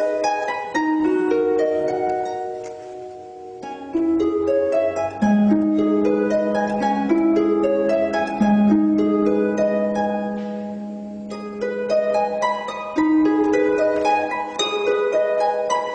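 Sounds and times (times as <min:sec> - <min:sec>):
harp arpeggios: 0:00.0 - 0:15.9.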